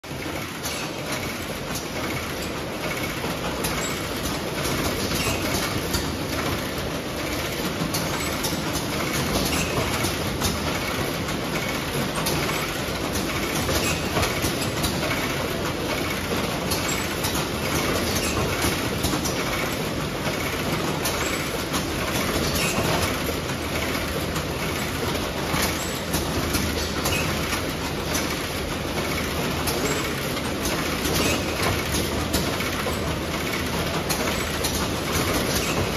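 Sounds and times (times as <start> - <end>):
machine conveyor clattering: 0.0 - 35.9.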